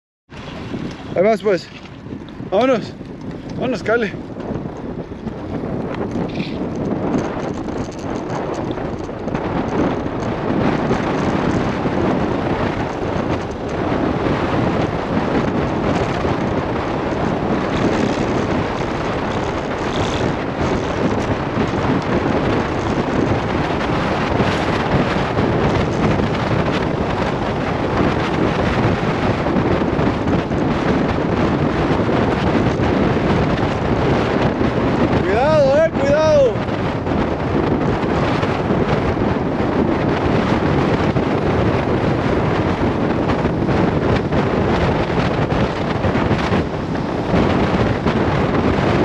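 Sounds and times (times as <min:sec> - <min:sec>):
wind buffeting microphone: 0:00.3 - 0:49.0.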